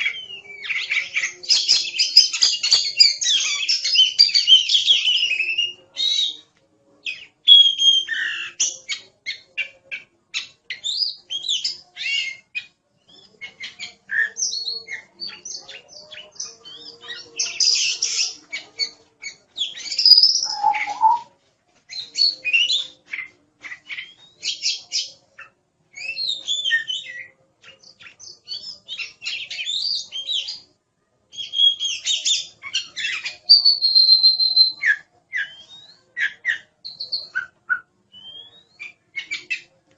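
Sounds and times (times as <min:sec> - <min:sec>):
bird singing whistles and chirps: 0:00.0 - 0:06.4, 0:07.1 - 0:25.1, 0:26.0 - 0:30.6, 0:31.4 - 0:39.7.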